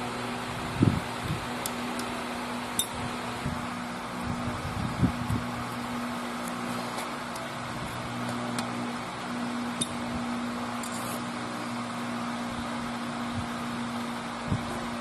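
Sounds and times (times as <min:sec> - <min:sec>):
mechanical fan hum: 0:00.0 - 0:15.0.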